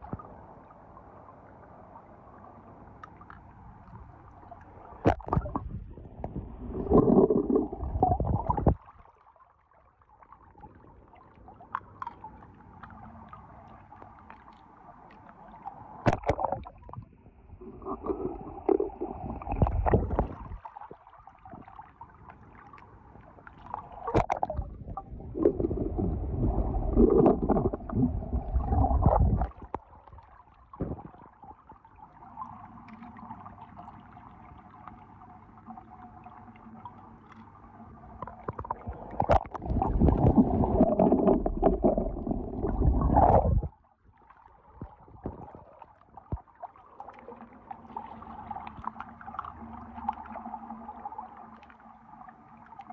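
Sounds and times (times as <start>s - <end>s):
water sloshing and splashing: 3.0s - 34.1s, 36.2s - 52.9s.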